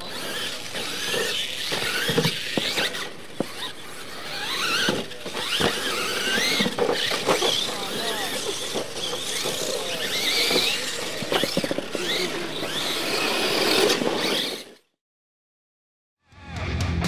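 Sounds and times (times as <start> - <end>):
electric motors whining: 0.0 - 14.9
trucks knocking on landing: 0.2 - 14.6.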